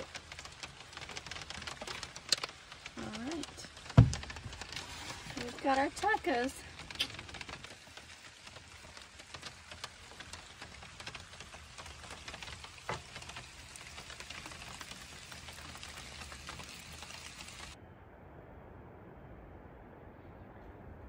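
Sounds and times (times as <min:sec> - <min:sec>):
rain pattering on a camper roof: 0:00.0 - 0:17.8.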